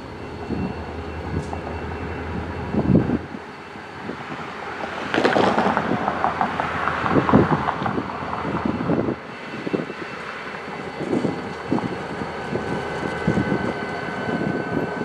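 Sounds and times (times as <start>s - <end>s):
diesel locomotive engines running: 0.0s - 15.0s
wind gusting on microphone: 0.0s - 15.0s.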